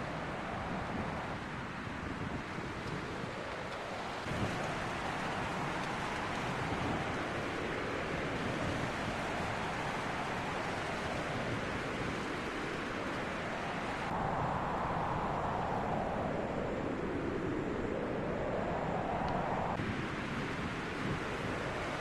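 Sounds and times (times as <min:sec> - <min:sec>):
strong wind blowing: 0:00.0 - 0:22.0.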